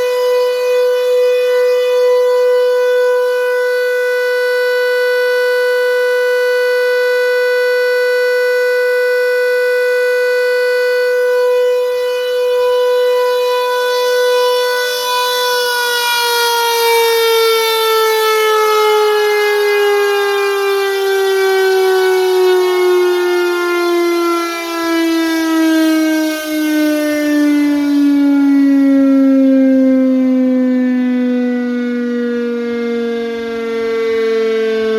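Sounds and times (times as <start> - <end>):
siren tone winding down: 0.0 - 34.9.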